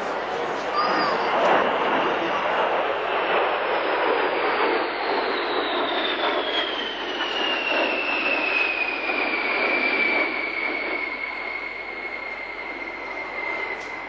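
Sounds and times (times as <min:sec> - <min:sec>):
jet bomber flying past: 0:00.0 - 0:14.0.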